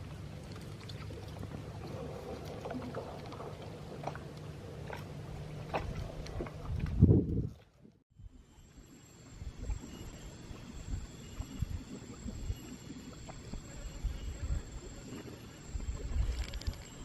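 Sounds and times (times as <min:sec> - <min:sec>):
boat engine humming: 0:00.0 - 0:07.1, 0:08.2 - 0:17.0.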